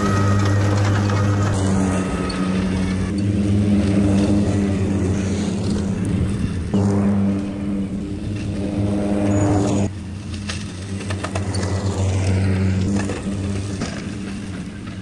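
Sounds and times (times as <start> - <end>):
electric mower hum: 0.0 - 15.0.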